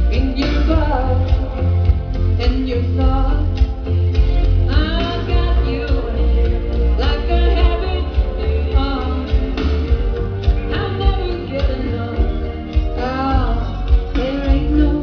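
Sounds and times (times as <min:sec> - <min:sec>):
person singing: 0:00.0 - 0:15.0
steady bass line: 0:00.0 - 0:15.0.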